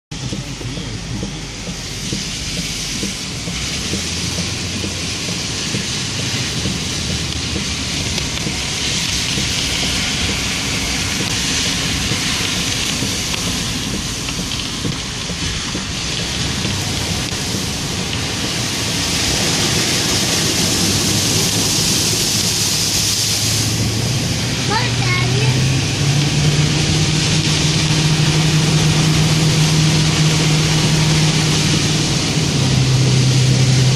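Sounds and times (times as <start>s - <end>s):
low engine rumble: 0.1s - 33.9s
rain: 0.1s - 33.9s
tyres hissing on wet road: 0.2s - 33.9s.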